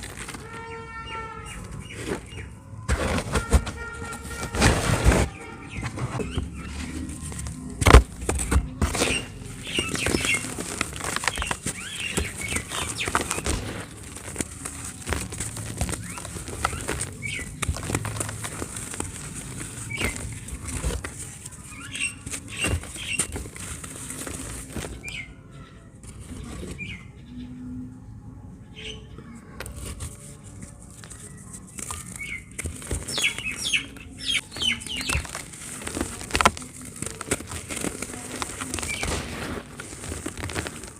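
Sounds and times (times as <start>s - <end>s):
cement chunks crumbling: 0.0s - 25.3s, 29.7s - 40.9s.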